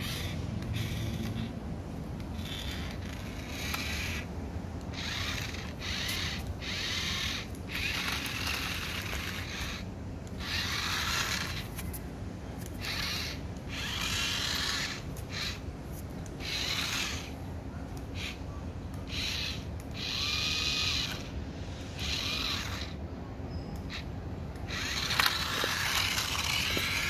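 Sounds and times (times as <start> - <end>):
toy car motor whirring: 0.0 - 12.0, 12.6 - 17.4, 18.0 - 23.0, 23.8 - 27.0.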